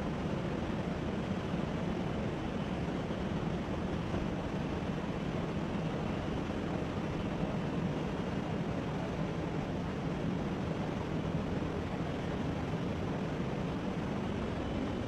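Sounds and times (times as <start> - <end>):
helicopter engine and rotors drone: 0.0 - 15.0.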